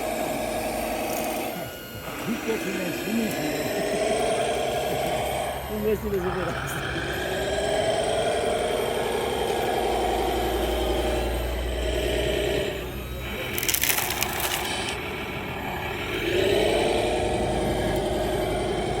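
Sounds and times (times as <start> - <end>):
model truck engine revving: 0.0 - 19.0.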